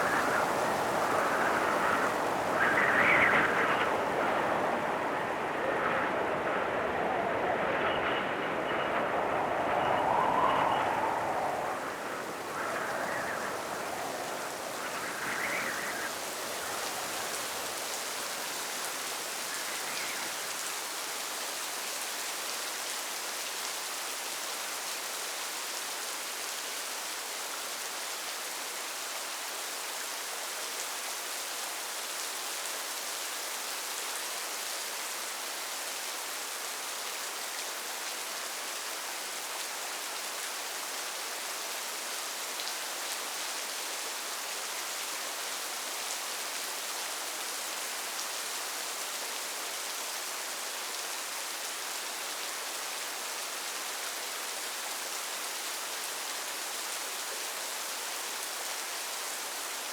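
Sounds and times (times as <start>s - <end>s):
steady rain falling: 0.0s - 6.9s, 9.3s - 59.9s.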